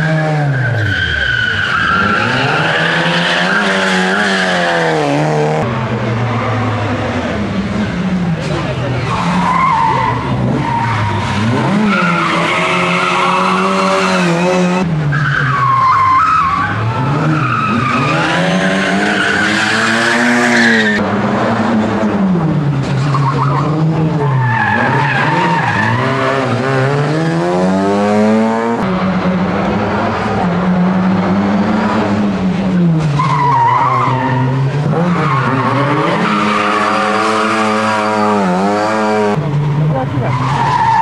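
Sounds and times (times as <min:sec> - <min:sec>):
rally car engine revving: 0:00.0 - 0:41.0.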